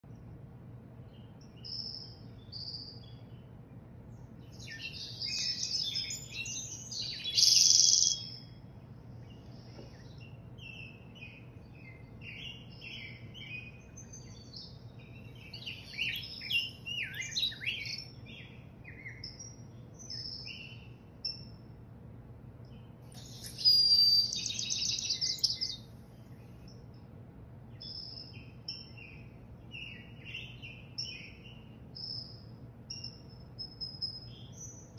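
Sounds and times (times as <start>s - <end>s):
faint low hum: 0.0s - 34.9s
birds chirping through speakers: 0.1s - 21.7s, 22.6s - 34.9s.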